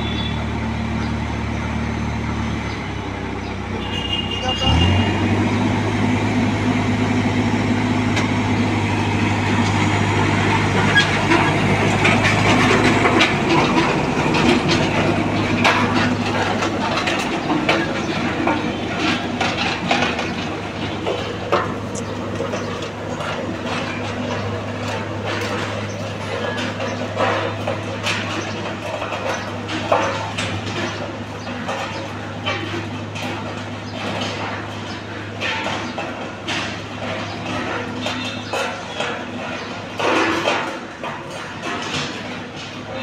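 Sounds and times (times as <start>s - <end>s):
diesel engine droning: 0.0s - 43.0s
gravel crunching: 0.0s - 43.0s.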